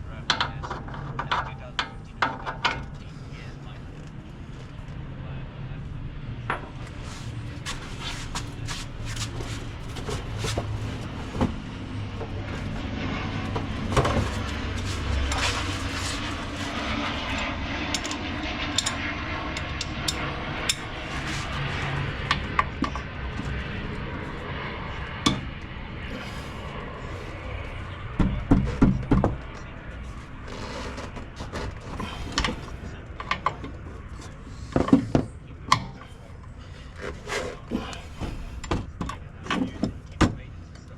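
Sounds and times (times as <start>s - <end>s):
steady background noise: 0.0s - 40.9s.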